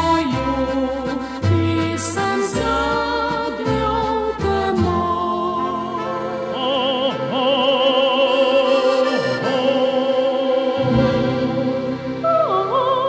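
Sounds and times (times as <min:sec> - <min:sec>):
instrumental accompaniment: 0:00.0 - 0:13.0
operatic singing with vibrato: 0:00.0 - 0:13.0.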